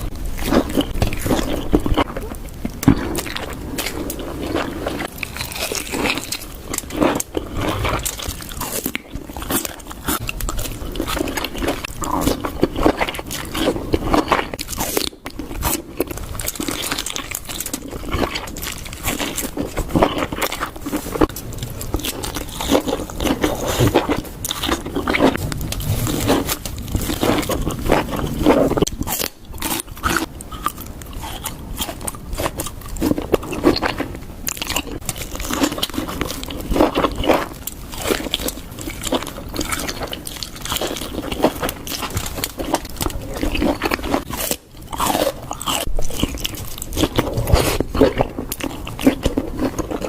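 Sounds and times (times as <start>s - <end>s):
crunching and chewing: 0.0s - 50.0s.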